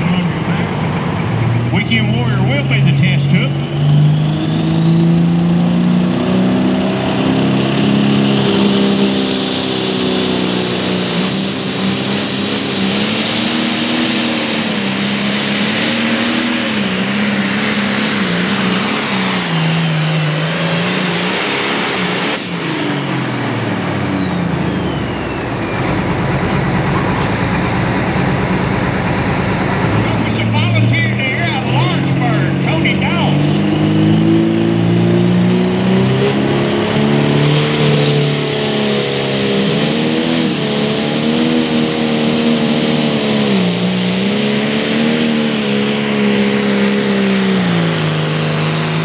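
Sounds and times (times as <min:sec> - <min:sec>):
tractor diesel engine at full power: 0:00.0 - 0:49.0
turbo whine: 0:06.4 - 0:49.0.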